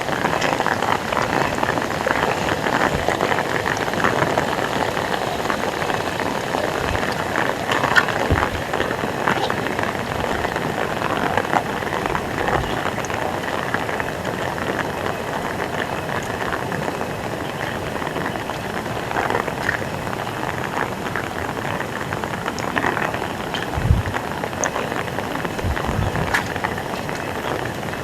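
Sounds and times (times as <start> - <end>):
drips and splashes: 0.0 - 28.0
heavy rain pouring: 0.0 - 28.0.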